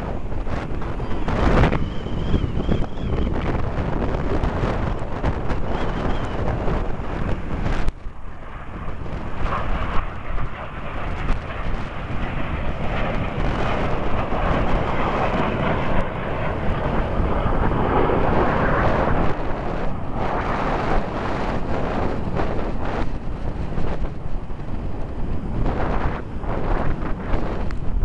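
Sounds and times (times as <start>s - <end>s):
jet rumbling past: 0.0s - 28.0s
wind buffeting microphone: 0.0s - 28.0s.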